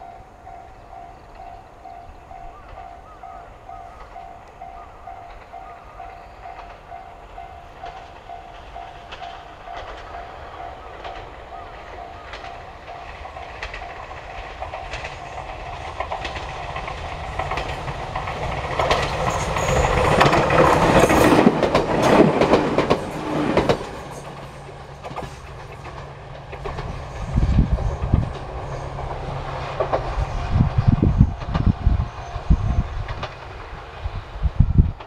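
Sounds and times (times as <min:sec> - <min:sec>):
train wheels clattering over rail joints: 0:00.5 - 0:35.0.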